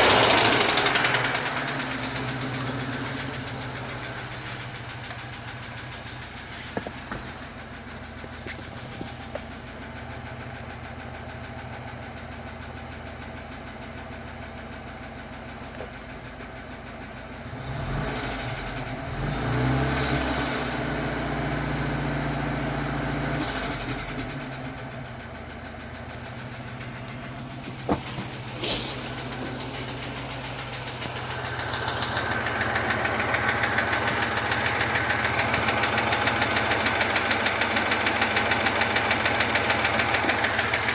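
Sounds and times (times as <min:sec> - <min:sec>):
knocking car engine revving: 0:00.0 - 0:40.9.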